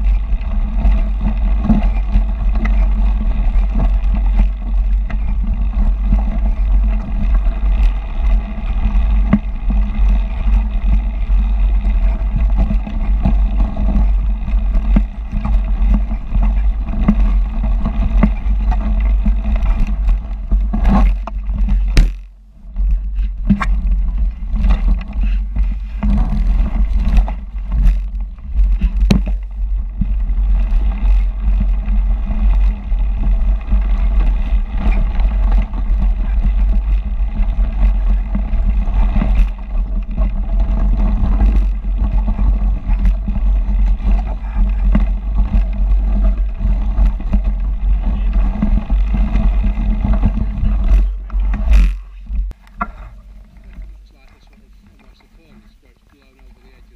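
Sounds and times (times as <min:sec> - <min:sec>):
bike tyres rolling over snow: 0:00.0 - 0:56.9
knocks and rattles from bumps: 0:00.0 - 0:56.9
wind on microphone: 0:00.0 - 0:56.9.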